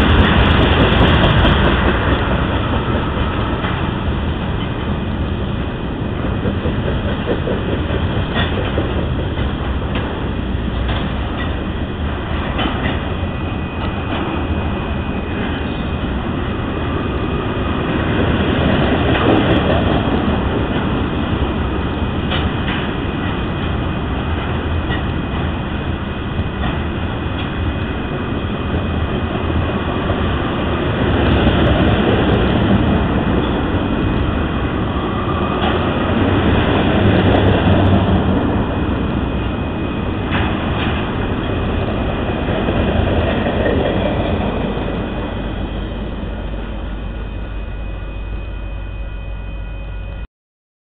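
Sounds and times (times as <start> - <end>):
train wheels rumbling on rail: 0.0 - 50.2.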